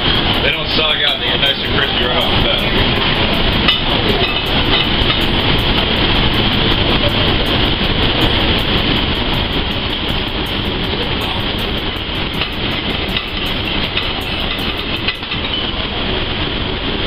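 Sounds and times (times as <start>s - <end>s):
gas range and exhaust hood roar: 0.0s - 17.0s.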